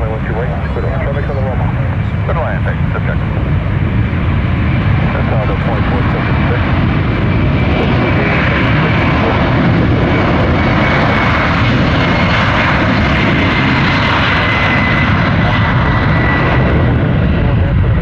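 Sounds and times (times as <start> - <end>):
jet airliner engines whining: 0.0 - 18.0.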